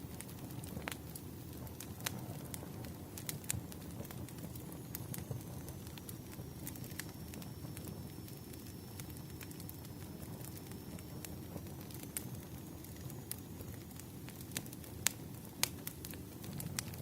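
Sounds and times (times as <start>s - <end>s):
firewood crackling and popping: 0.0s - 17.0s
low rumble of flame: 0.0s - 17.0s.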